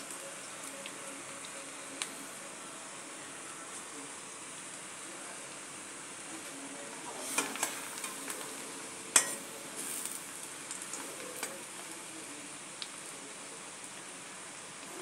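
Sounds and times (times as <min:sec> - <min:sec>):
cabbage sizzling in a pan: 0:00.0 - 0:15.0.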